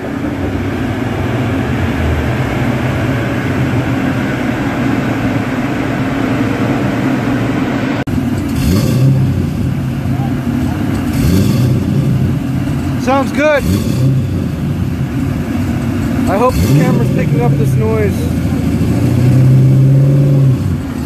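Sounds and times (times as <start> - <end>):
car engine running on dyno: 0.0 - 21.0
engine revving: 0.0 - 21.0.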